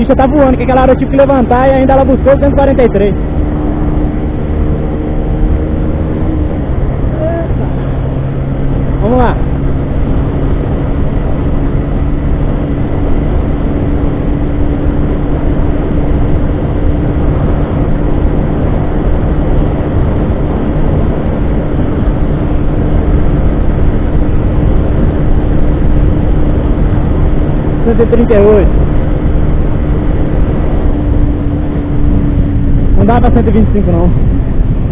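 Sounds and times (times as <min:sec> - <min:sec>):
motorcycle engine drone: 0:00.0 - 0:34.9
wind rush on microphone: 0:00.0 - 0:34.9.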